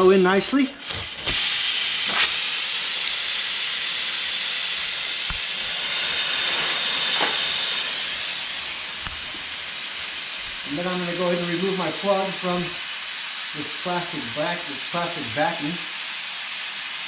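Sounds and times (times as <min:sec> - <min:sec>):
air hissing out of tire: 0:00.7 - 0:17.0.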